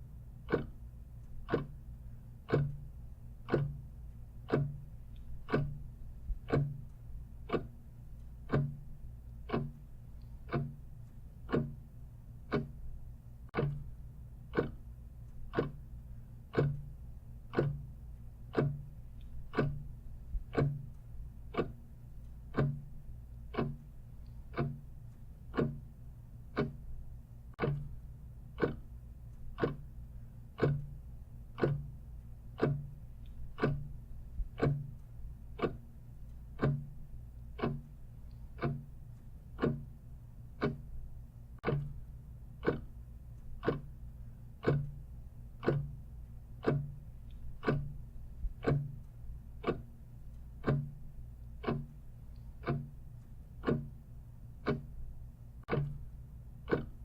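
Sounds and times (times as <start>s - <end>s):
clock ticking: 0.0s - 57.0s
steady low hum: 0.0s - 57.0s.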